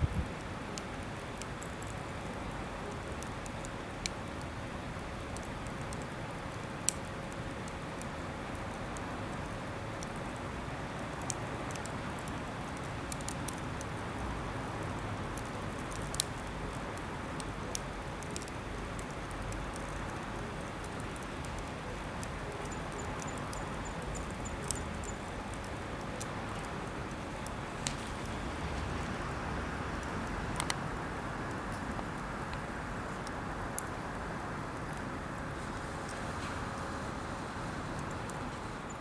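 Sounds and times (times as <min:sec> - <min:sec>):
campfire crackling and popping: 0:00.0 - 0:39.0.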